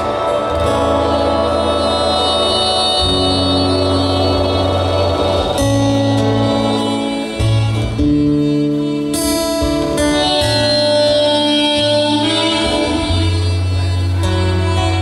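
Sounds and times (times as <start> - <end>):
amplified acoustic guitar: 0.0 - 15.0
bass line: 0.0 - 15.0.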